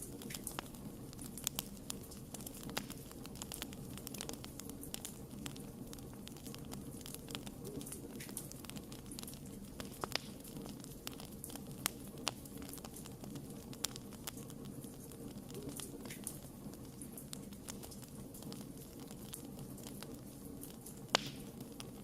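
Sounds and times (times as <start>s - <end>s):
low rumble of flames: 0.0s - 22.0s
wood crackling and popping: 0.0s - 22.0s.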